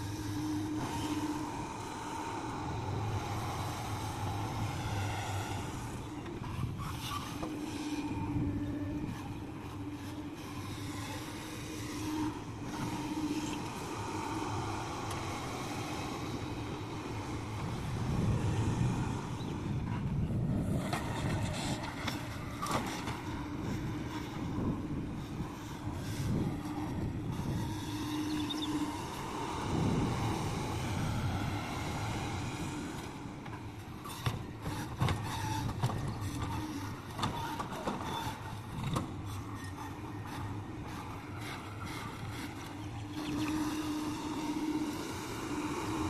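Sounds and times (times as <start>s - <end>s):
excavator whine: 0.0s - 46.0s.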